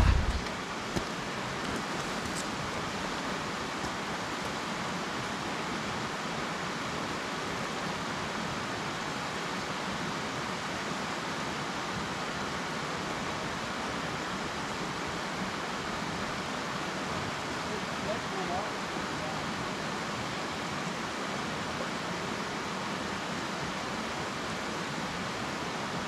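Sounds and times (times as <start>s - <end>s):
creek running over rocks: 0.0s - 26.0s.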